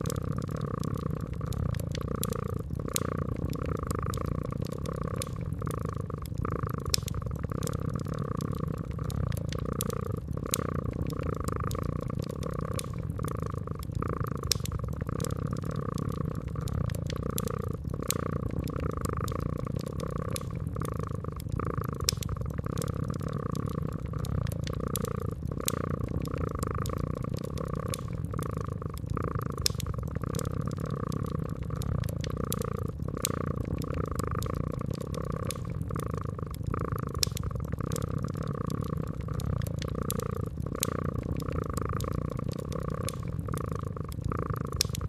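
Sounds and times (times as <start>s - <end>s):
cat purring: 0.0s - 45.0s
wood fire crackling: 0.0s - 45.0s.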